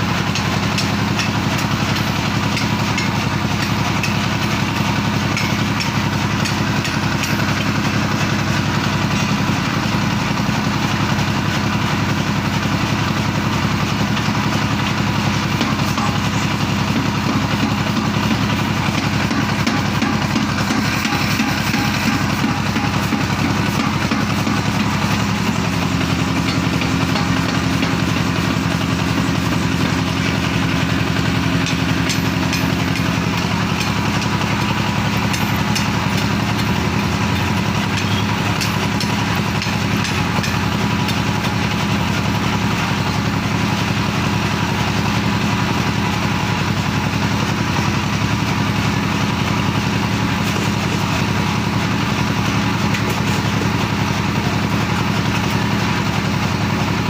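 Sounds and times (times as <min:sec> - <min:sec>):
power hammer mechanical drone: 0:00.0 - 0:57.0.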